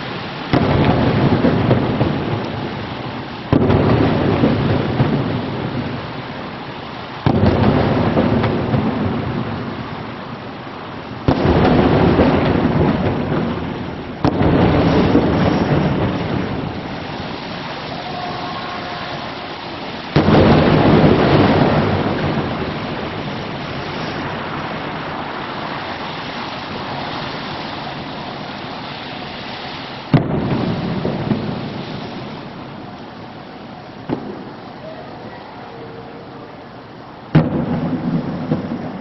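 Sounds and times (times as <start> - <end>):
firework shells booming: 0.0 - 35.3, 37.2 - 39.0.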